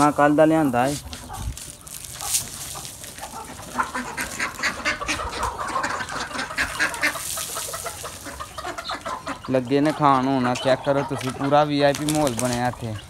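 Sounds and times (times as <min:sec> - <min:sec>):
chickens clucking: 0:00.0 - 0:13.0
ducks quacking: 0:00.0 - 0:13.0
pecking on concrete: 0:00.1 - 0:13.0.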